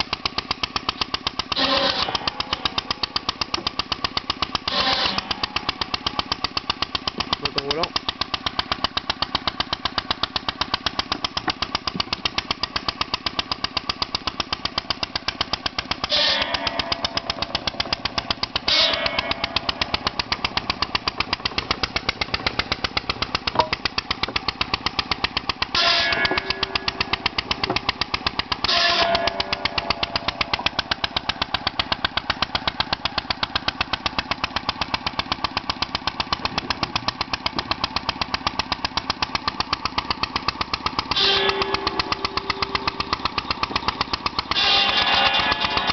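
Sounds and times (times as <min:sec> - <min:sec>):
circular saw cutting log: 0:00.0 - 0:45.9
stationary engine running: 0:00.0 - 0:45.9.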